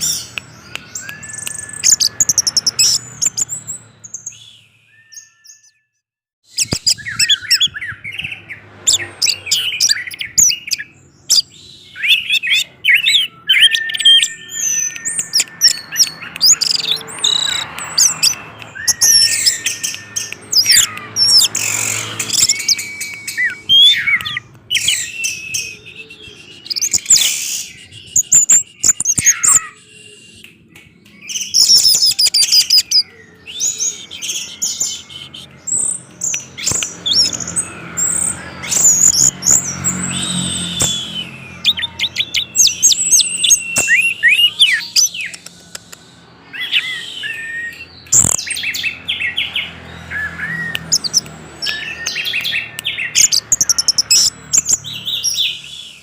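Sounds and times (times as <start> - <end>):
thrush singing: 6.9 - 56.0.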